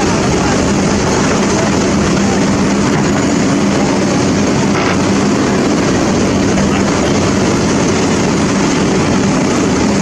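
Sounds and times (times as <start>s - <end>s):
heavy engine running: 0.0s - 10.0s.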